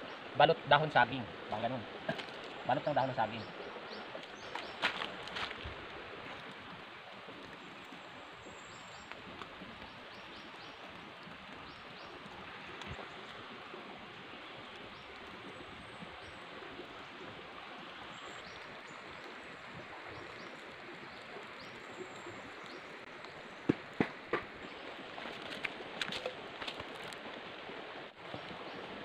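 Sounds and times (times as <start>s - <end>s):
outdoor background hiss: 0.0s - 29.0s.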